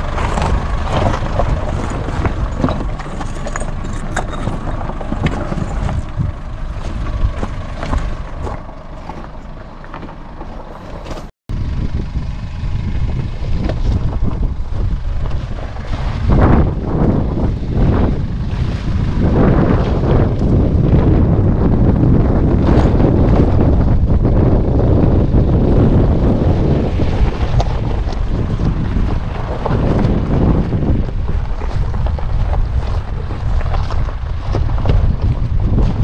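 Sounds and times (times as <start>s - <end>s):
stones crunching under tyres: 0.0s - 11.3s, 13.0s - 36.0s
diesel engine running at low speed: 0.0s - 36.0s.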